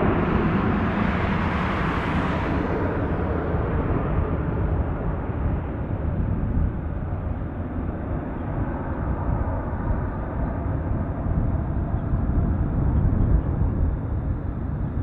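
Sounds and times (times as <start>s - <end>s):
jet engines rumbling at takeoff: 0.0s - 15.0s.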